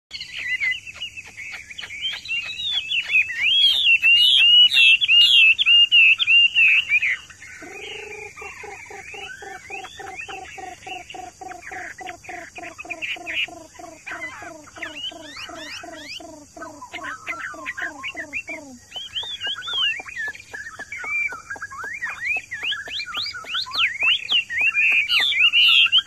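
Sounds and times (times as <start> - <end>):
bird singing whistled phrases: 0.1 - 11.1, 14.2 - 26.0
bird repeating low notes: 1.4 - 26.0.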